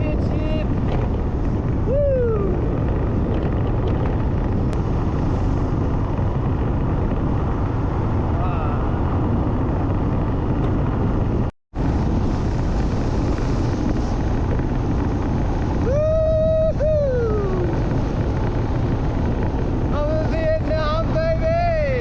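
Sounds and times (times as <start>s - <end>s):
motorbike running: 0.0s - 22.0s
wind rushing over microphone: 0.0s - 22.0s.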